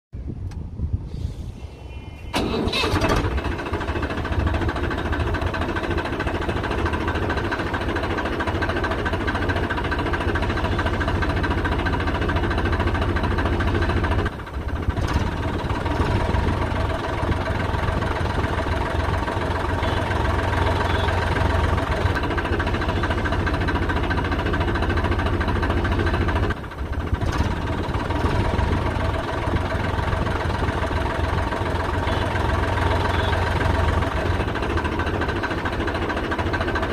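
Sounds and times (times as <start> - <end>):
tractor engine idling: 2.3 - 36.9.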